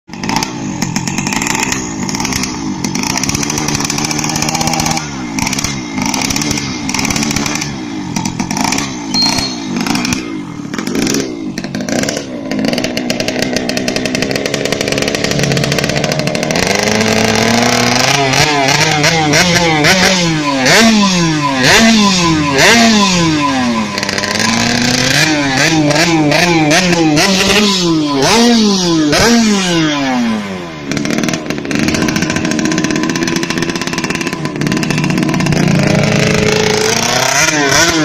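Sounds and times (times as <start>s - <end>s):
two-stroke engine revving: 0.1s - 38.0s.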